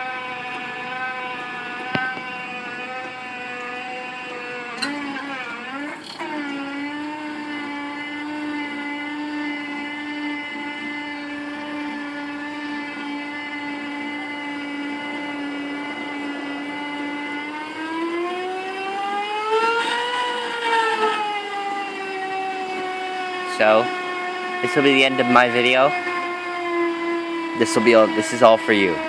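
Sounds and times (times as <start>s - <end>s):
cable ride machinery whining: 0.0s - 29.0s.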